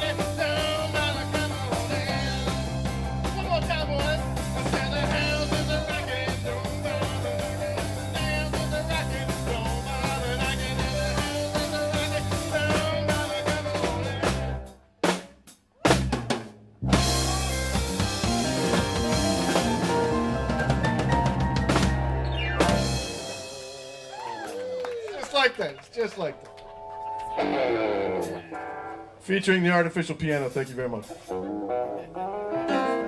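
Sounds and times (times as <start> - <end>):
bass guitar: 0.0 - 15.2, 15.8 - 24.8, 27.2 - 29.2, 30.9 - 33.0
rock band playing live: 0.0 - 25.5, 26.3 - 29.2, 30.4 - 33.0
drum kit: 0.0 - 25.8, 27.2 - 28.8.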